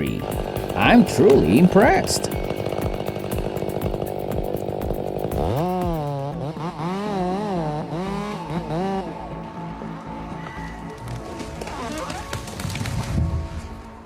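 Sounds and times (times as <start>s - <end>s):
chainsaw cutting tree: 0.0s - 9.6s, 10.8s - 13.6s.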